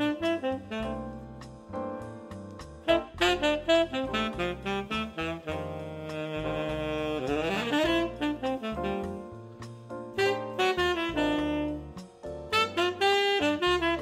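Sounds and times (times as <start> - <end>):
tenor saxophone jazz melody: 0.0 - 14.0.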